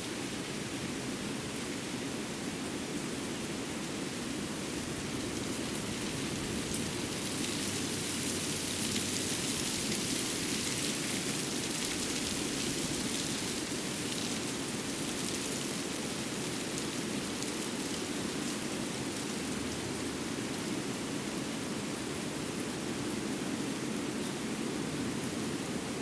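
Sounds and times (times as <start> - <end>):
rushing forest ambience: 0.0 - 26.0.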